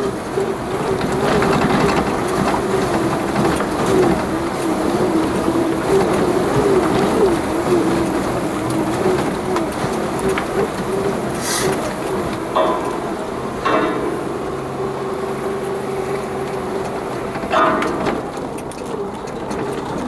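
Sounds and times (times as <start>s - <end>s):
off-road vehicle engine running: 0.0s - 20.0s
water rushing noise: 0.0s - 20.0s.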